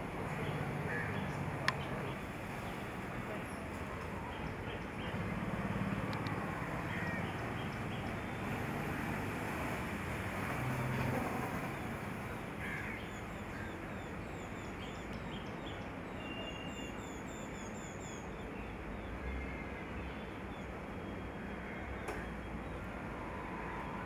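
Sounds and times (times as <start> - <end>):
outdoor background hum: 0.0 - 16.4, 17.0 - 24.0.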